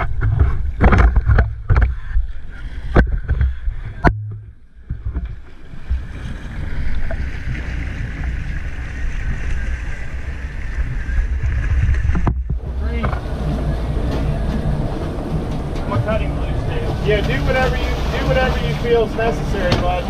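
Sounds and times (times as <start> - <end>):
wind noise: 0.0 - 18.3
water rushing: 0.0 - 20.0
boat engine running: 3.0 - 20.0.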